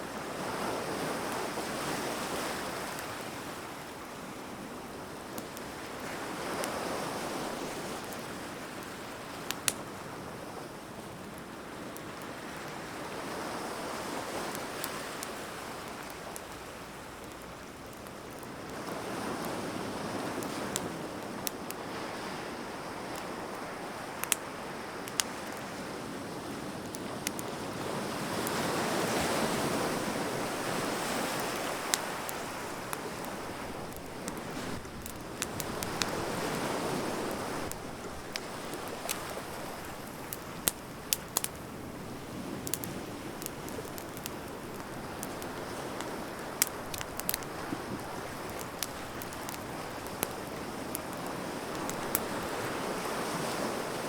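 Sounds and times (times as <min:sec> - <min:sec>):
bonfire crackling and popping: 0:00.1 - 0:54.0.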